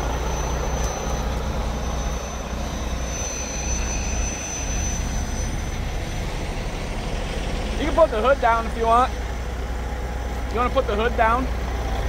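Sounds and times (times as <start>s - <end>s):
thin high whine: 0.0s - 12.0s
truck diesel engine idling: 0.0s - 12.0s.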